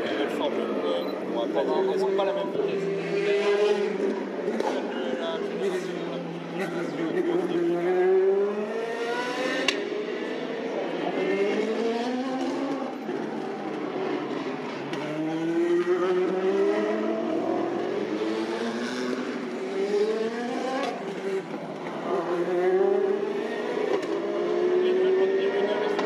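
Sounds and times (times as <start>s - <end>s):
racing car engines accelerating: 0.0s - 26.0s.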